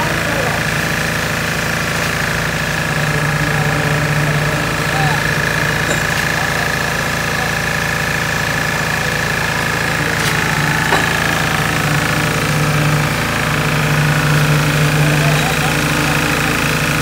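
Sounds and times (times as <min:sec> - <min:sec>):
high whine: 0:00.0 - 0:17.0
machinery engine running: 0:00.0 - 0:17.0.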